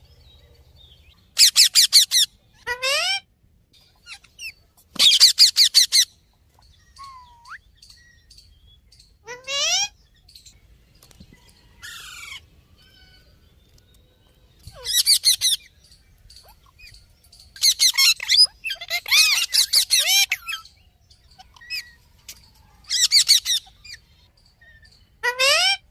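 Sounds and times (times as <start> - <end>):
birds chirping rapidly: 0.0 - 25.9.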